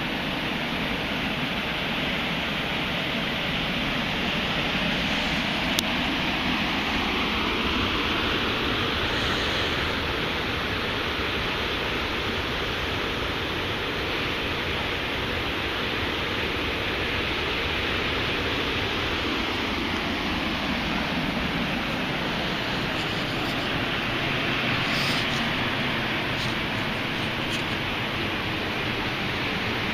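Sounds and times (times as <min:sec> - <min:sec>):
ocean surf washing onto beach: 0:00.0 - 0:29.9.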